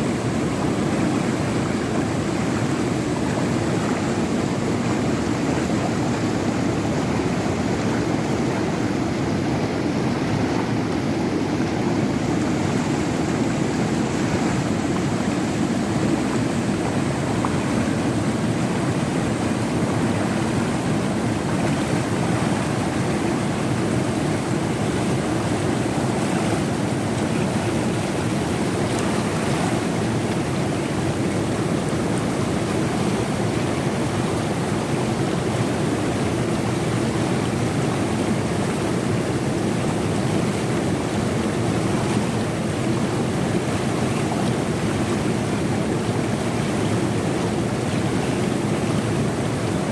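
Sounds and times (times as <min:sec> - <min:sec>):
river rushing: 0:00.0 - 0:49.9.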